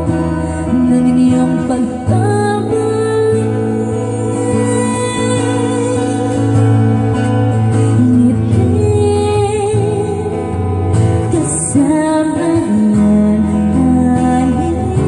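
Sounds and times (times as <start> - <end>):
acoustic guitar: 0.0 - 15.0
woman singing into a microphone: 0.0 - 15.0.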